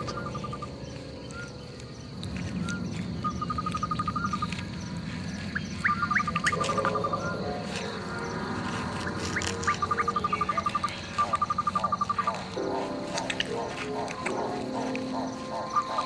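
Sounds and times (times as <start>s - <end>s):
insect pulsing calls: 0.0s - 16.0s.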